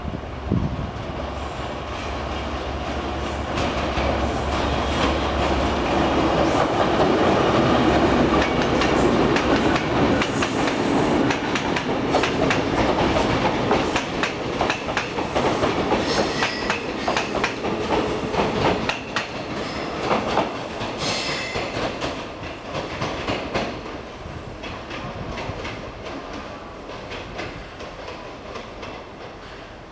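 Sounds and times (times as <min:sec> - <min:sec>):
train wheels clicking over rail joints: 0:02.0 - 0:29.8.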